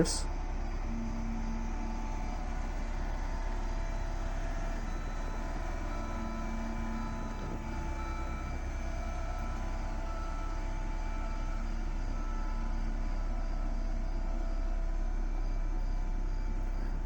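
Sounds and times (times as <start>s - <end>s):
diesel engine rumbling: 0.0s - 17.0s
whining tones: 0.0s - 17.0s.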